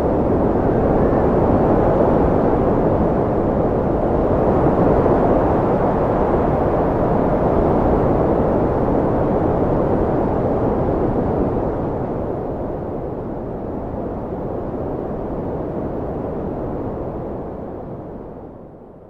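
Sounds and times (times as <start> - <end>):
strong wind rushing: 0.0 - 18.8.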